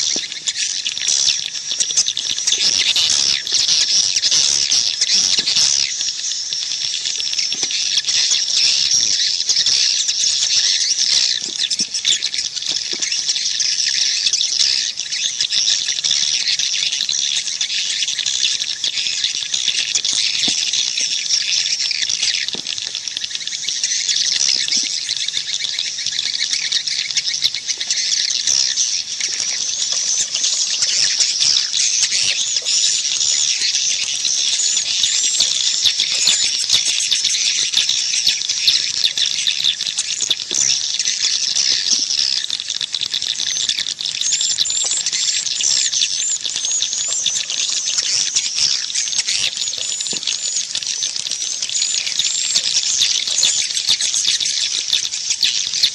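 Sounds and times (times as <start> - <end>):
swiftlets twittering: 0.0 - 15.6, 17.5 - 55.9.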